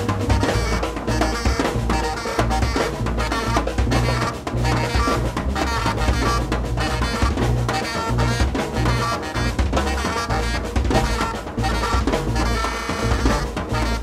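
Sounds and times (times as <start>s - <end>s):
busy drum kit playing: 0.0s - 14.0s
low bass notes: 0.0s - 14.0s
saxophone: 0.0s - 14.0s.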